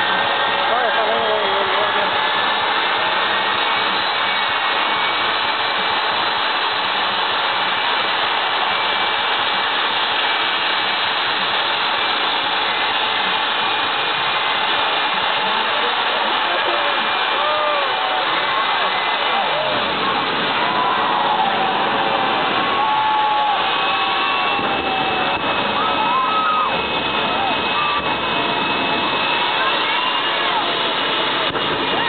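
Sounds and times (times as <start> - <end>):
faint high whine: 0.0 - 32.0
turbine engine rushing: 0.0 - 32.0.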